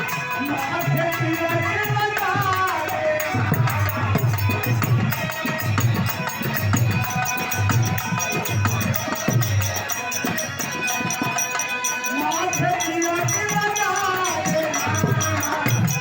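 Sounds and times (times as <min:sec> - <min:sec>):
hand drum beat: 0:00.0 - 0:16.0
jingling percussion: 0:00.0 - 0:16.0
person singing: 0:00.0 - 0:16.0.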